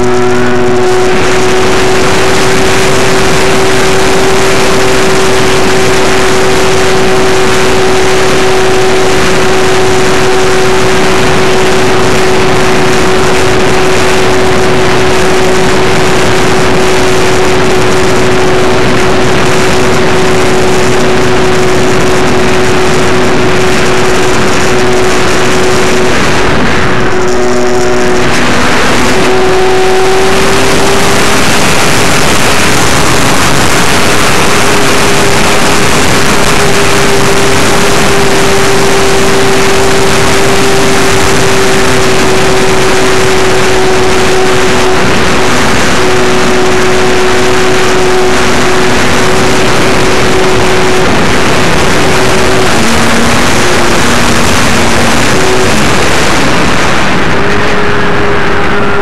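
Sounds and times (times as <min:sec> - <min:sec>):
electric motor whine: 0:00.0 - 0:59.0
wind rushing over microphone: 0:00.0 - 0:59.0.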